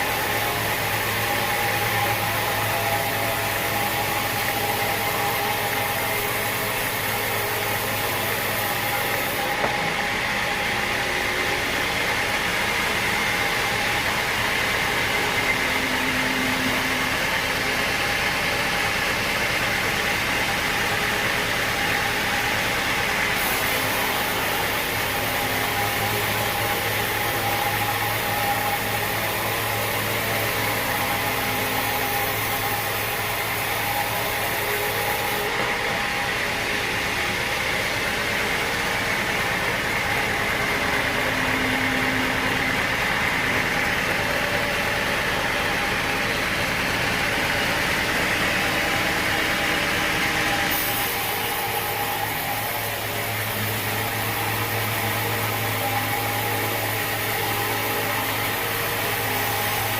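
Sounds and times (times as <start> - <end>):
sawmill machinery hum and whine: 0.0 - 59.9.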